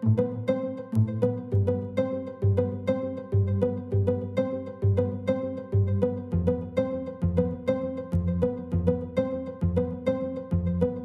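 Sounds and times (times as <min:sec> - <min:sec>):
plucked melody with bass and beat: 0:00.0 - 0:11.0.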